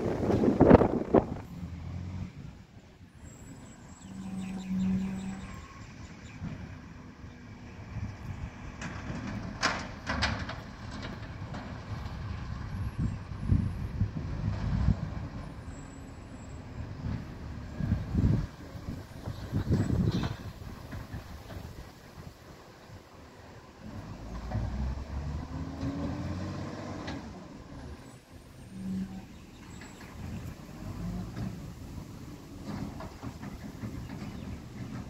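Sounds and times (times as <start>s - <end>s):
garbage truck engine rumbling: 0.0s - 35.0s.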